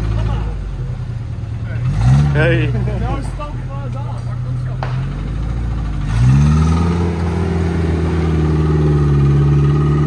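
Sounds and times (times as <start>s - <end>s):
off-road vehicle engine revving: 0.0s - 10.0s.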